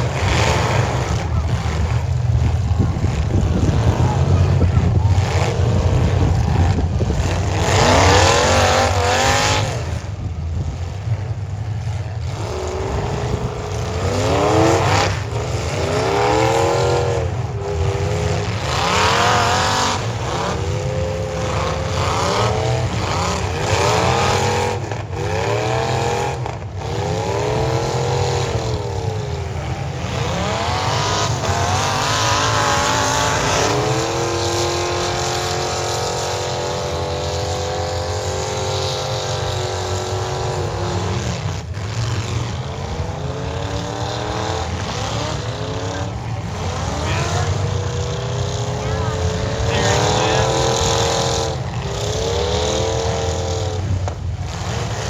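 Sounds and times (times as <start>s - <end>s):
car engines revving hard: 0.0s - 55.0s
low drone of engines: 0.0s - 55.0s.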